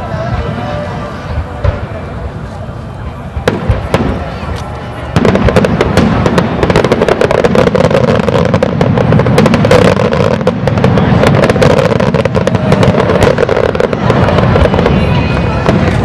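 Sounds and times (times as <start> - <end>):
fireworks bursts and crackles: 0.0 - 16.0.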